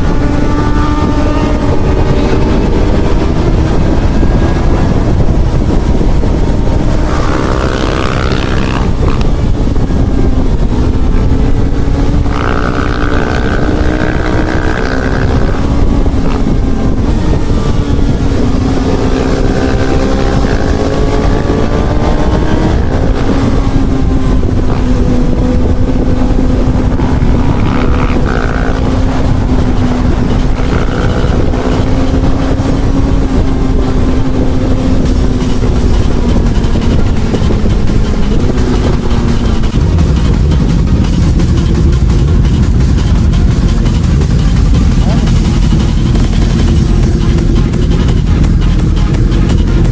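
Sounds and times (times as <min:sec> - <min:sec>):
motorcycle engine cruising: 0:00.0 - 0:49.9
wind rush on microphone: 0:00.0 - 0:49.9.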